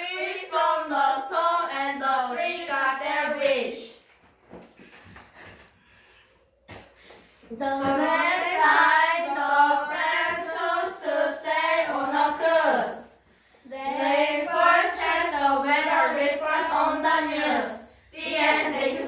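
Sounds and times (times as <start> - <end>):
children singing: 0.0 - 3.9, 7.5 - 19.0.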